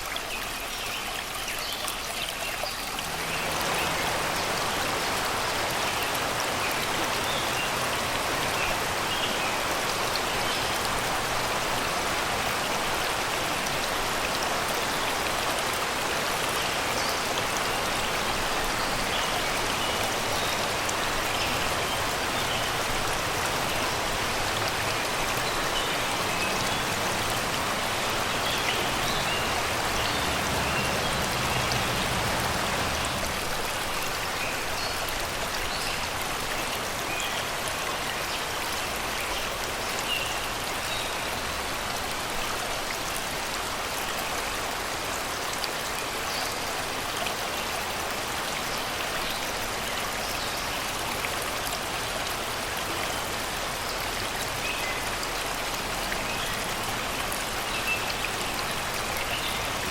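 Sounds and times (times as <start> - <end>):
river water babbling over rocks: 0.0 - 59.9.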